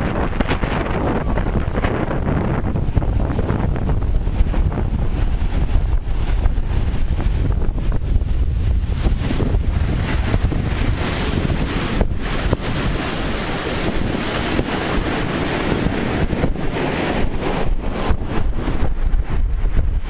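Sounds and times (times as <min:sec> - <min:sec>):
heavy surf breaking: 0:00.0 - 0:20.0
wind buffeting microphone: 0:00.0 - 0:20.0.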